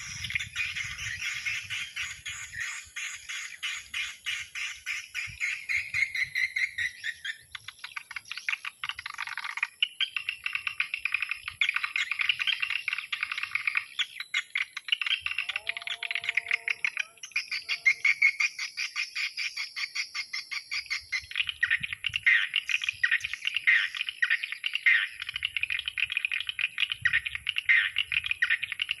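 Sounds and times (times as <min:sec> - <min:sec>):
recorded bird chattering clicks: 0:00.0 - 0:29.0.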